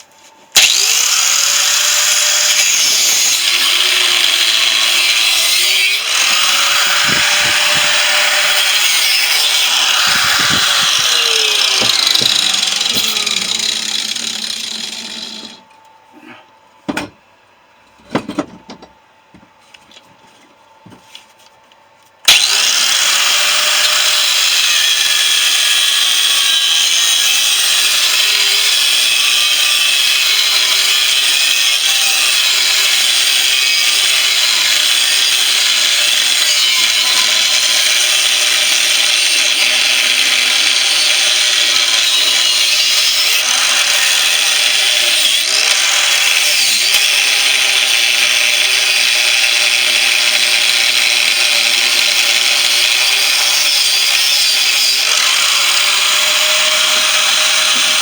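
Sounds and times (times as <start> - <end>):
angle grinder cutting steel: 0.5 - 15.6, 22.3 - 58.0.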